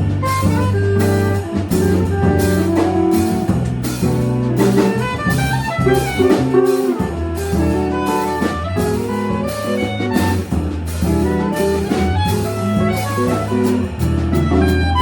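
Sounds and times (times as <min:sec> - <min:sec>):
drum cymbal beat: 0:00.0 - 0:15.0
jazz band playing: 0:00.0 - 0:15.0.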